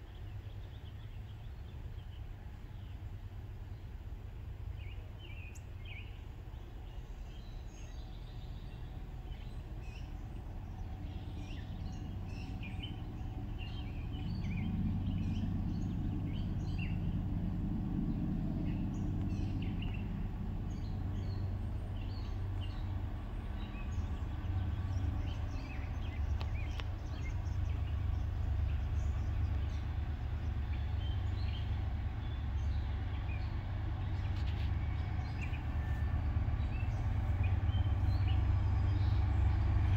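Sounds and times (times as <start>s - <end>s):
freight train rumbling: 0.0s - 39.9s
songbirds chirping: 0.0s - 39.9s.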